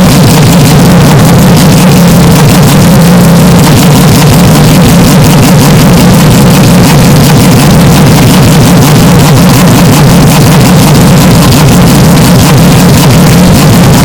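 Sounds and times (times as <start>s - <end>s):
distorted race car engine: 0.0s - 14.0s.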